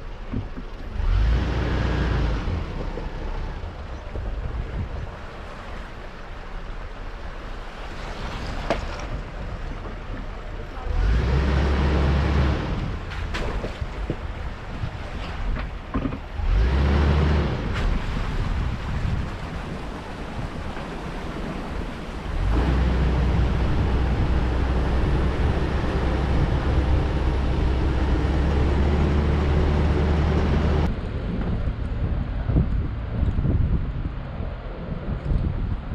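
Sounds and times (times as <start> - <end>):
off-road vehicle engine and tyre rumble: 0.0 - 35.9.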